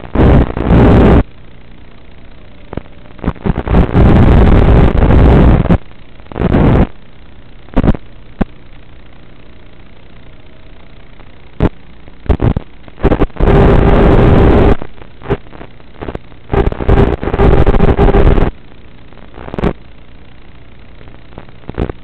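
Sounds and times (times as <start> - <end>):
constant low hiss: 0.0 - 22.0
distorted noise surges: 0.0 - 22.0
steady hum: 0.0 - 22.0.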